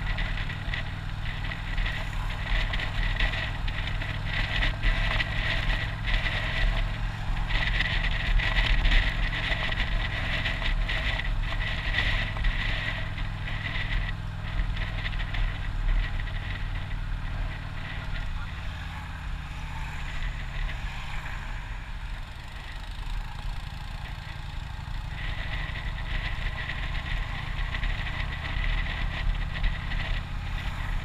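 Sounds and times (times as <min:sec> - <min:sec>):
motorcycle engine running: 0:00.0 - 0:31.0
road noise: 0:00.0 - 0:31.0
wind noise: 0:00.0 - 0:31.0.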